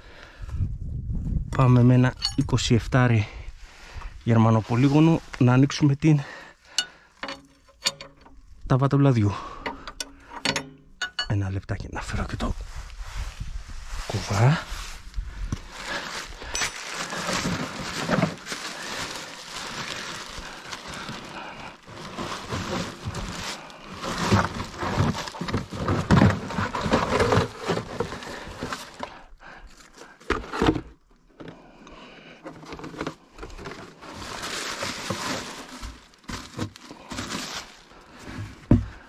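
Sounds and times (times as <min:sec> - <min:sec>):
rustling and scraping of handling: 0:00.5 - 0:39.0.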